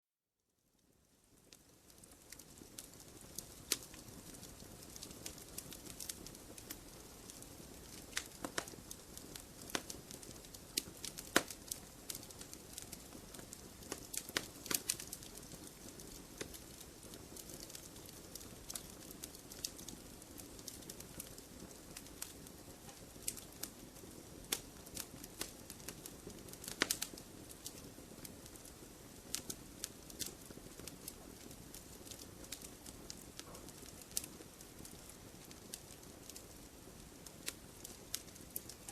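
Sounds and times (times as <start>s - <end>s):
campfire crackling and popping: 0.8s - 38.9s.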